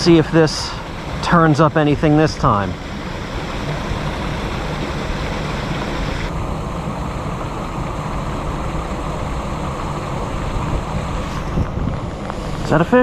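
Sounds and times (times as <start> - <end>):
heavy rain: 0.0 - 13.0
wind on microphone: 0.8 - 13.0.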